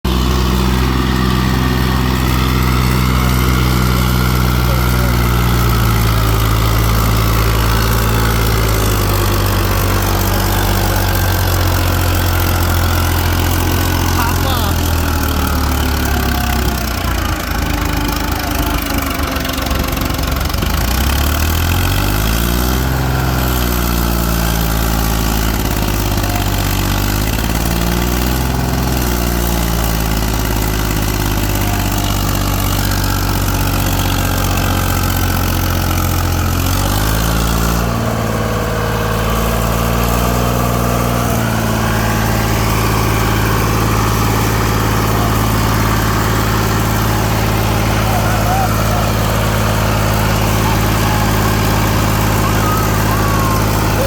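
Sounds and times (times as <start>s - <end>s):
tractor diesel engine labouring: 0.0s - 54.0s.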